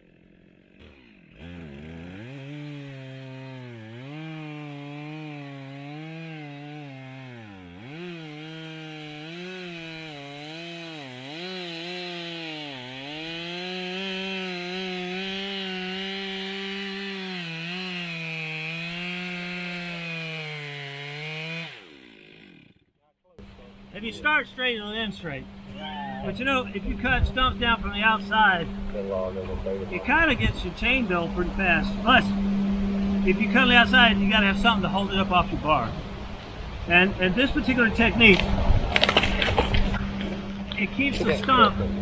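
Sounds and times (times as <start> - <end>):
chainsaw cutting wood: 0.0 - 22.9, 25.5 - 29.0, 30.1 - 42.0.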